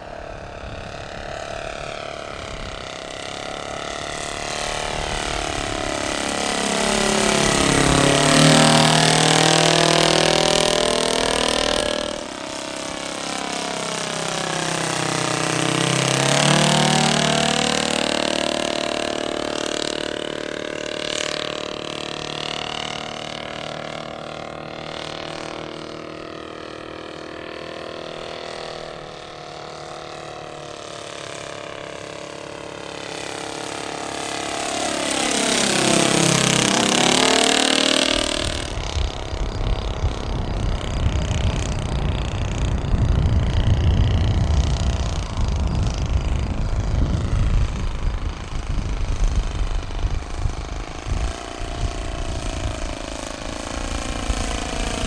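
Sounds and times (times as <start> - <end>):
model aircraft engine flying past: 0.0 - 55.0.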